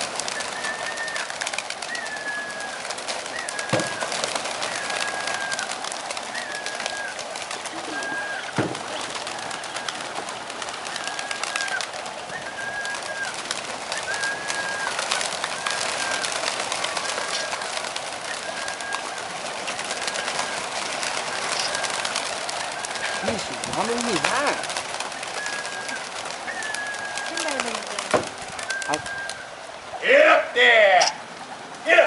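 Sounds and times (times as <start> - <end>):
pigeon wings rustling: 0.0 - 30.0
pigeons cooing: 0.0 - 30.0.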